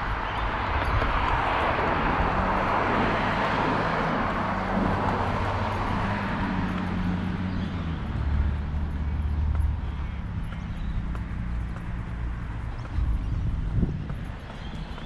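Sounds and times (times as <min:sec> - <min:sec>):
low engine hum: 0:00.0 - 0:15.0
vehicle passing: 0:00.0 - 0:15.0.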